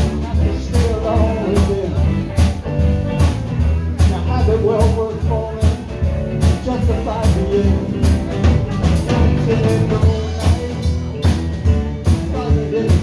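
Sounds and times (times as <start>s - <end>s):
bass: 0.0s - 13.0s
drum kit beat: 0.0s - 13.0s
electric guitar: 0.0s - 13.0s.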